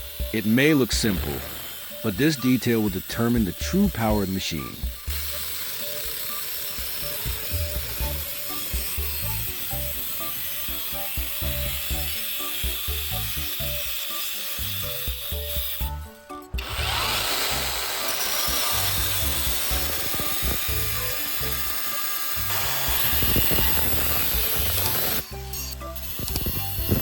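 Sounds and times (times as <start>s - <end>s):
background music: 0.0s - 27.0s
power tool on steel saw blade: 0.0s - 27.0s.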